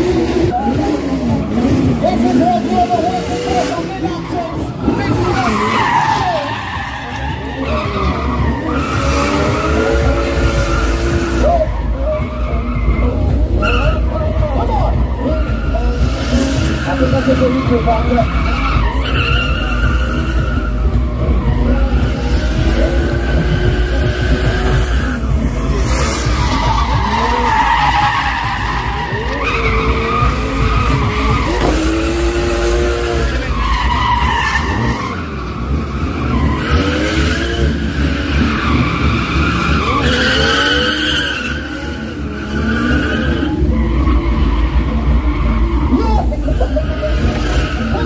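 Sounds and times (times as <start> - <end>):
car engine revving: 0.0 - 48.0
tyres squealing: 1.5 - 48.0.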